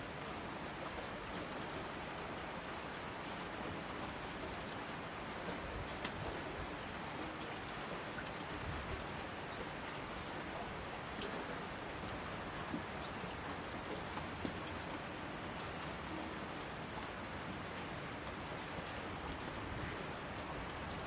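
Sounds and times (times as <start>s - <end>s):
steady rain falling: 0.0s - 21.0s
raindrops ticking: 0.3s - 1.7s, 5.4s - 21.0s.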